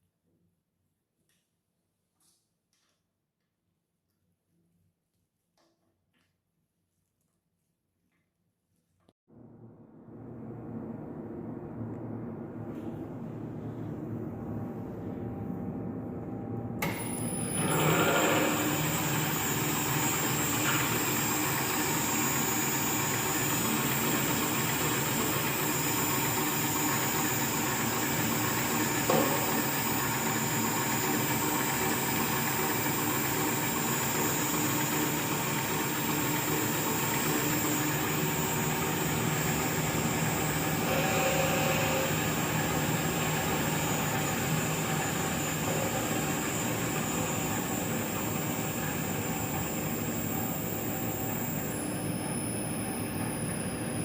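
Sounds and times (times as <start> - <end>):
machine startup whine: 9.3 - 54.0
geared machine humming: 9.4 - 54.0.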